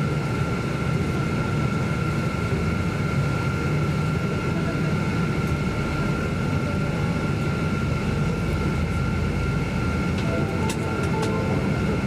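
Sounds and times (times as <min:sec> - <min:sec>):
aircraft cabin rumble and whine: 0:00.0 - 0:12.0.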